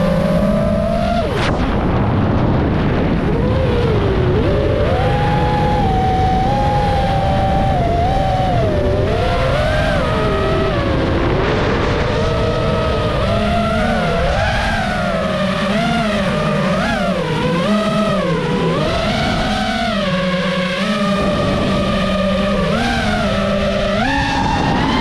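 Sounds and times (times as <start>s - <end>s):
quadcopter motors whining: 0.0s - 25.0s
wind rumble: 0.0s - 25.0s.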